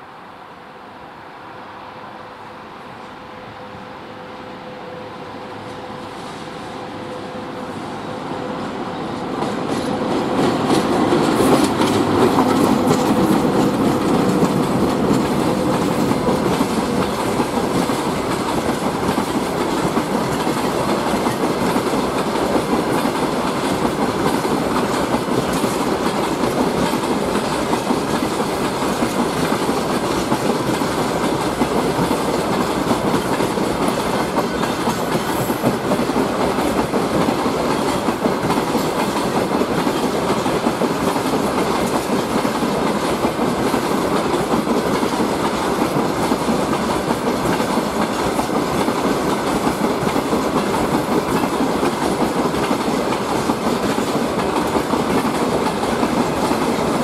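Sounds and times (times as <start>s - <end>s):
electric locomotive hum: 0.0s - 57.0s.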